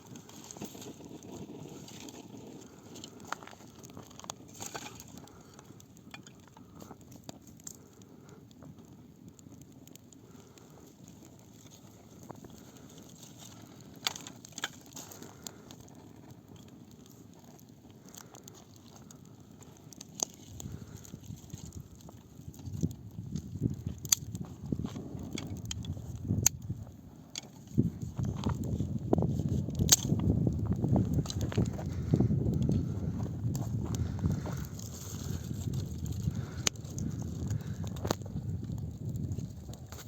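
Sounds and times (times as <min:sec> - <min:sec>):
campfire flames rumbling: 0:00.0 - 0:40.0
fire crackling and popping: 0:00.0 - 0:40.0.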